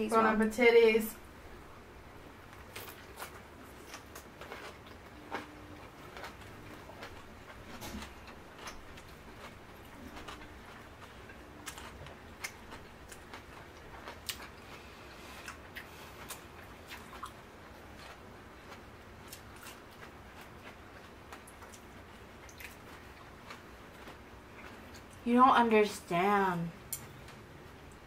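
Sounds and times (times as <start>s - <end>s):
person chewing food: 2.5s - 25.2s.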